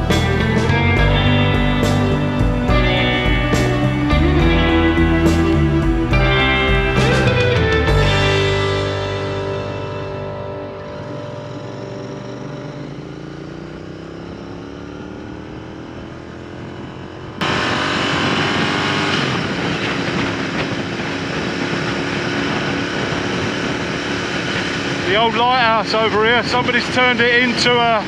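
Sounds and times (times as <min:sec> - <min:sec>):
motorcycle engine running: 0:00.0 - 0:28.0
wind and road noise: 0:00.0 - 0:28.0.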